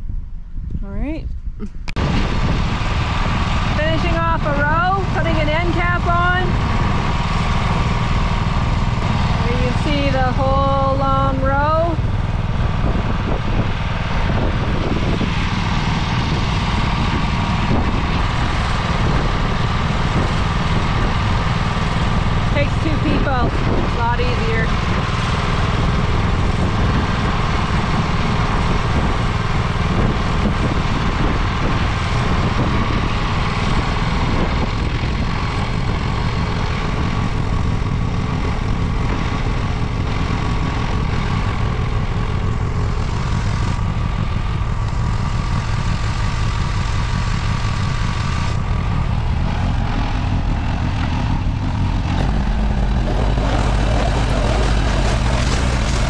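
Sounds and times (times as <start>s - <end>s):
farm machinery engine idling: 1.9s - 56.0s.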